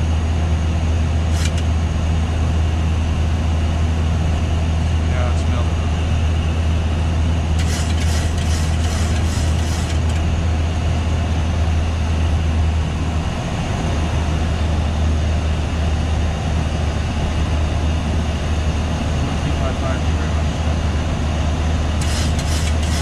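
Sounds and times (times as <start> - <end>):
aircraft engines droning: 0.0 - 23.0.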